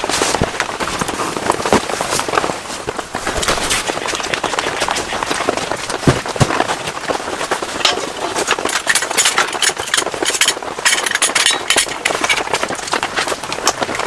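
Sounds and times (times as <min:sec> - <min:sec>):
rain on tent fabric: 0:00.0 - 0:14.0.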